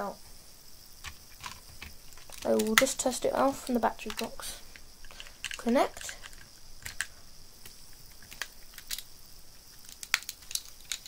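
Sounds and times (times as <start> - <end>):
plastic bricks clicking: 1.0 - 11.0.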